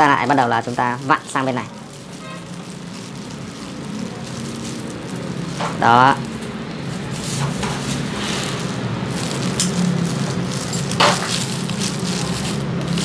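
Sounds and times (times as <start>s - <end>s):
plastic gloves crinkling: 0.0s - 13.0s.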